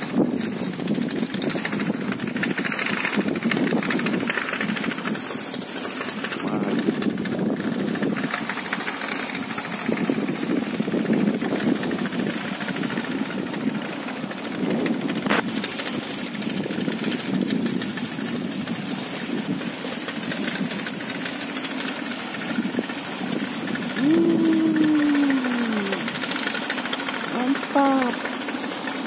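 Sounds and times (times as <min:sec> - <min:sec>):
wind buffeting microphone: 0:00.0 - 0:27.8.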